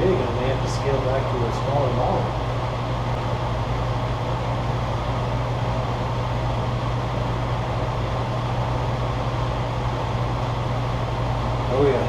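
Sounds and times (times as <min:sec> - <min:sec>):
gas burner rushing: 0:00.0 - 0:12.0.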